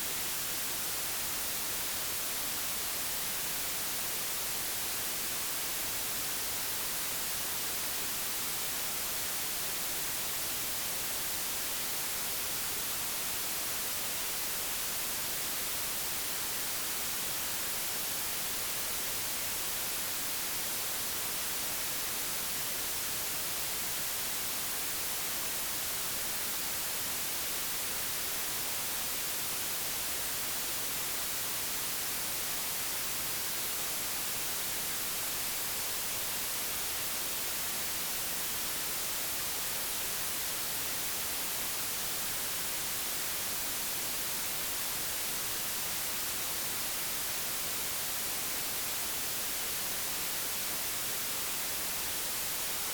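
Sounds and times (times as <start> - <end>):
white noise hiss: 0.0 - 52.9.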